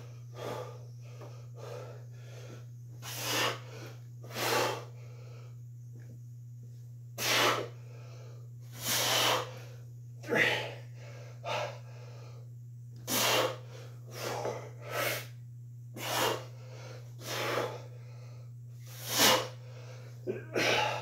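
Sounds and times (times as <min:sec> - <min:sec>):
man breathing forcefully: 0:00.0 - 0:05.7, 0:07.2 - 0:21.0
low hum: 0:00.0 - 0:21.0.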